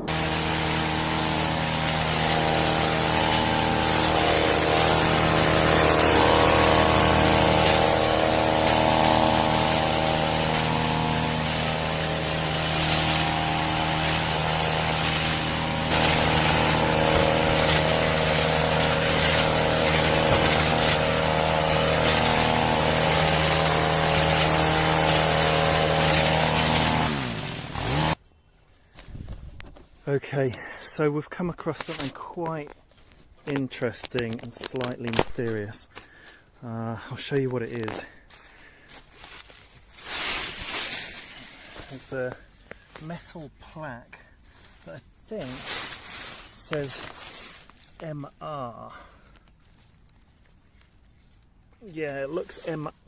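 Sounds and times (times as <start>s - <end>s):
hedge trimmer running: 0.0s - 28.2s, 37.6s - 50.2s, 51.3s - 53.0s.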